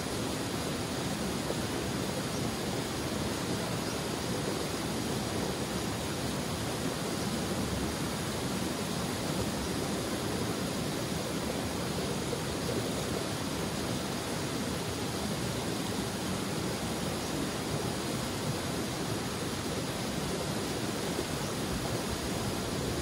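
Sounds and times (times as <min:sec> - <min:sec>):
stream flowing: 0:00.0 - 0:23.0.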